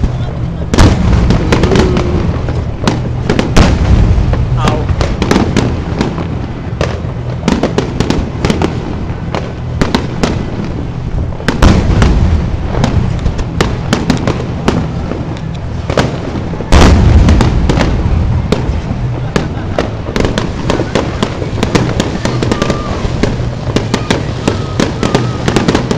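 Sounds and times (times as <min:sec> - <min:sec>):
continuous low rumble: 0:00.0 - 0:25.9
fireworks cracks and pops: 0:00.0 - 0:25.9
heavy fireworks booms: 0:00.0 - 0:25.9.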